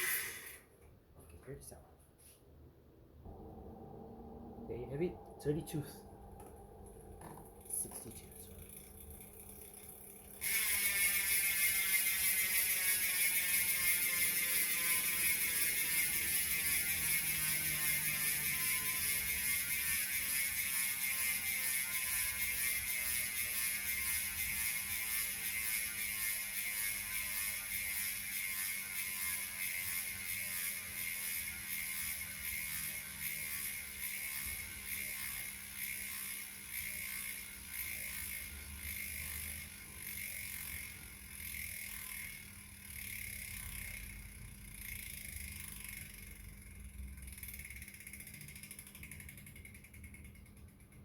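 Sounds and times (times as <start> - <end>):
bicycle freehub buzzing: 0.0 - 0.8, 3.2 - 51.0.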